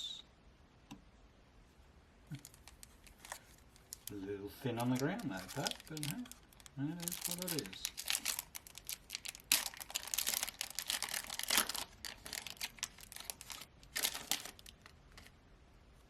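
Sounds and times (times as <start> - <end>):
wrapper crinkling and tearing: 2.3 - 15.3.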